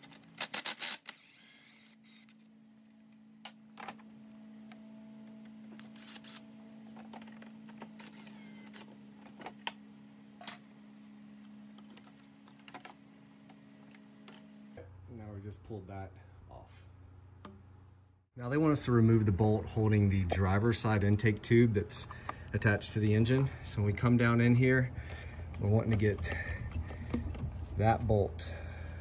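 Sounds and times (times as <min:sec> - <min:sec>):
steady low hum: 0:01.1 - 0:29.0.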